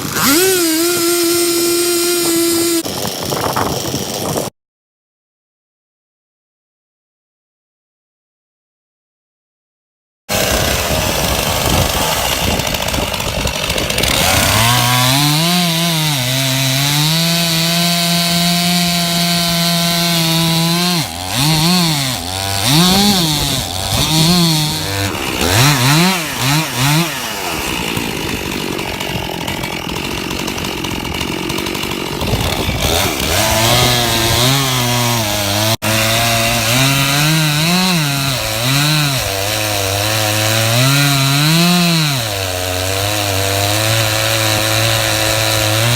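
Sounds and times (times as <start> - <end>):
chainsaw cutting into tree: 0.0 - 4.5, 10.3 - 45.9.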